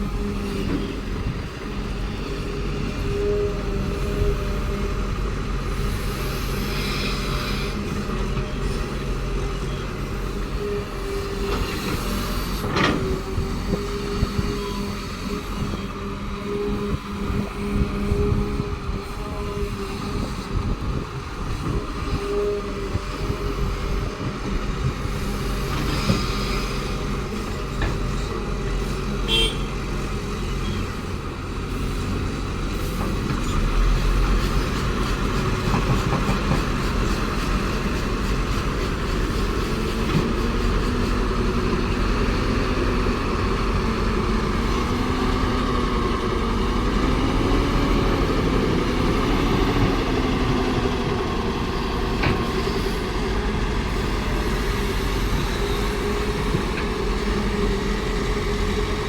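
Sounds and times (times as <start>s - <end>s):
excavator diesel engine under load: 0.0s - 59.0s.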